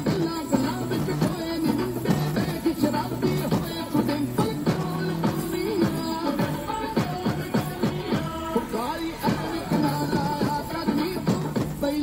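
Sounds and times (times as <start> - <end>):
dance music: 0.0 - 12.0
drum beat falling in pitch: 0.0 - 12.0.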